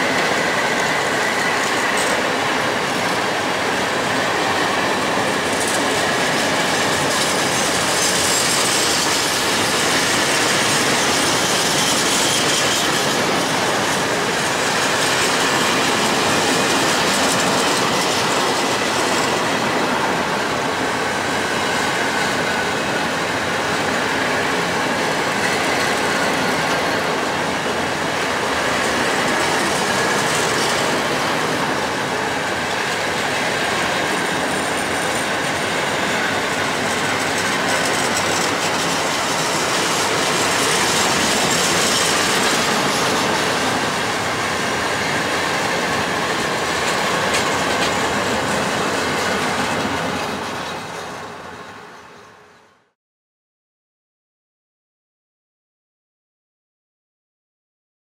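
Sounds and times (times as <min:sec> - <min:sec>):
train wheels clattering over rails: 0:00.0 - 0:52.4.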